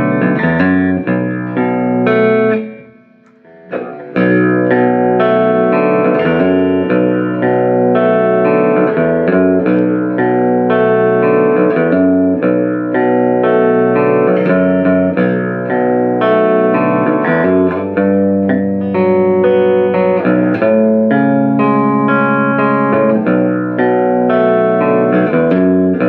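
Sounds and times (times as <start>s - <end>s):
baritone electric guitar playing: 0.0s - 26.0s.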